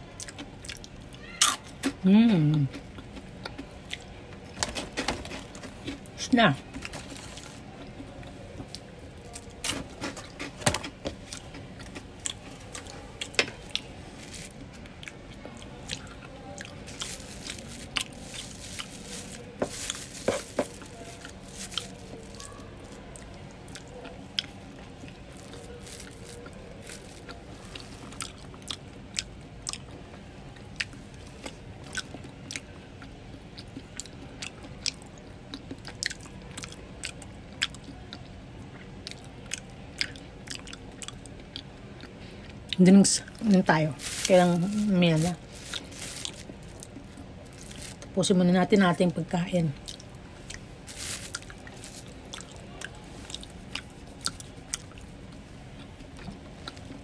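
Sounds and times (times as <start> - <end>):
person chewing fries: 0.0 - 48.2, 49.8 - 57.0.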